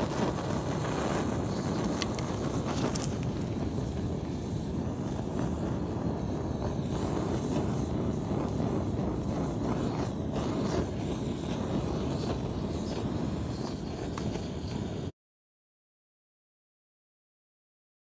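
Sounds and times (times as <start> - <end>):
blowtorch flame rushing: 0.0 - 15.1.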